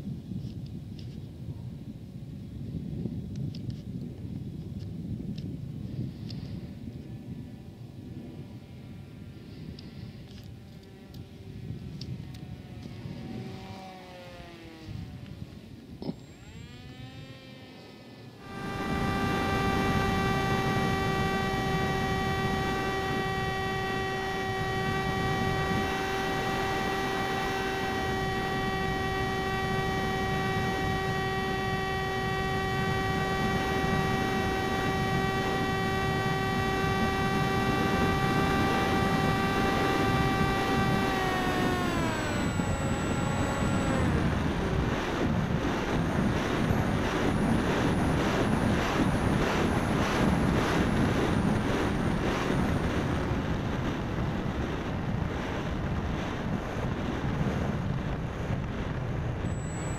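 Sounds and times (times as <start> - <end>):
wind rush: 0.0 - 17.3, 18.4 - 59.9
electric motor high whine: 4.8 - 59.9.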